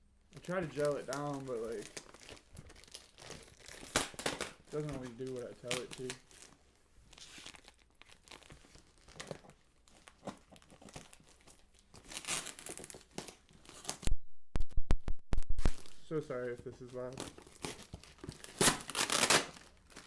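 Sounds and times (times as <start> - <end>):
packing tape tearing and peeling: 0.4 - 14.1, 17.0 - 20.0.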